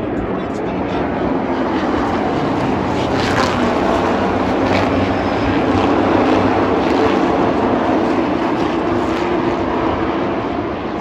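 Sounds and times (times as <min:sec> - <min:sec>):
racing truck engines droning: 0:00.0 - 0:11.0.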